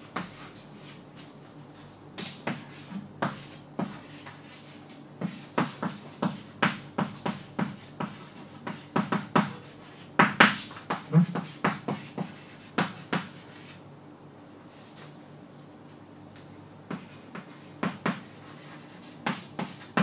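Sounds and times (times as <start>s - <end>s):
chalk writing on a chalkboard: 0.0s - 13.8s, 16.9s - 20.0s.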